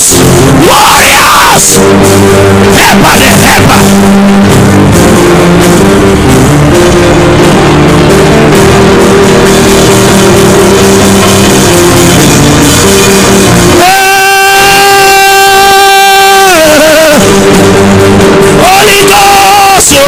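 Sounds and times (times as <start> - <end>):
loud live church music: 0.0 - 20.0.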